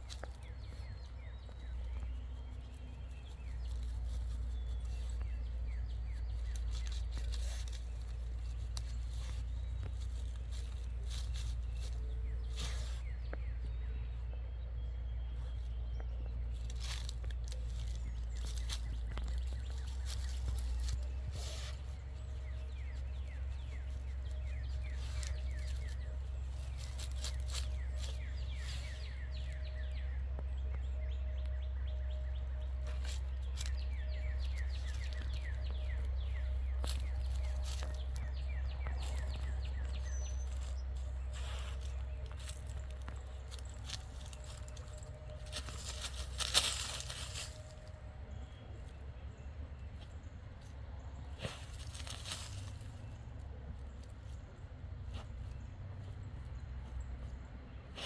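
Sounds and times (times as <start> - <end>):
dog digging in dirt: 0.0 - 14.0, 15.5 - 48.9, 50.7 - 53.2
birds chirping: 0.0 - 58.0
steady low rumble: 0.0 - 58.0.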